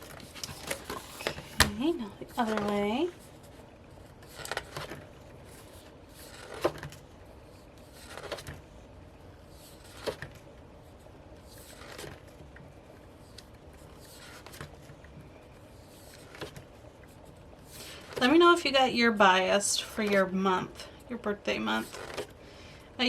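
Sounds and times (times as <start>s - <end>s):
calendar pages flipping: 0.0s - 8.8s, 9.4s - 18.6s, 21.5s - 22.4s.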